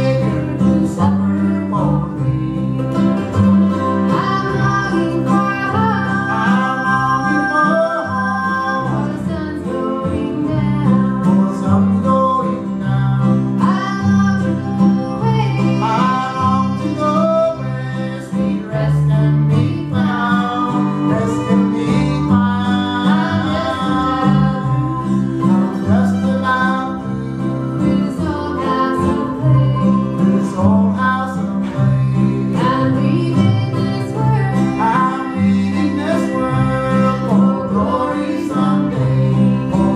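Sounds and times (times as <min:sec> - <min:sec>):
fiddle: 0:00.0 - 0:39.9
guitar: 0:00.0 - 0:39.9
mandolin: 0:00.0 - 0:39.9.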